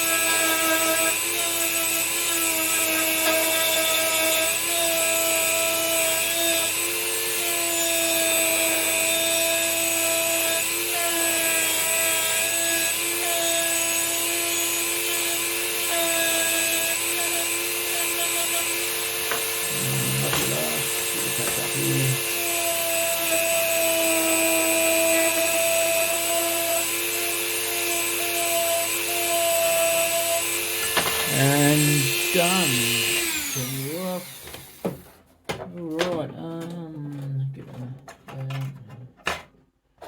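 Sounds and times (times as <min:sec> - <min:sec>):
rotary tool motor whine: 0:00.0 - 0:35.1.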